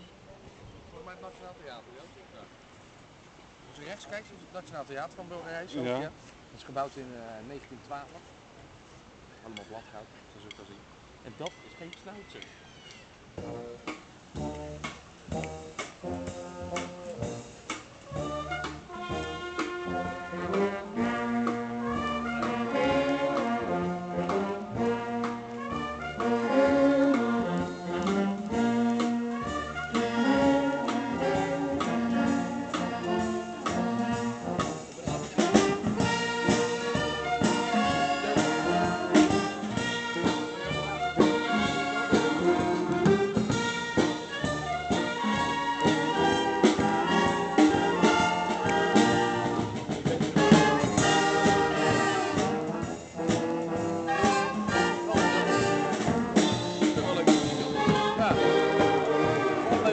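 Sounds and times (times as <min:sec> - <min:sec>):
wind band playing a tune: 0:03.8 - 0:08.1, 0:09.5 - 0:12.4, 0:13.2 - 0:59.9
drums: 0:09.4 - 0:59.9.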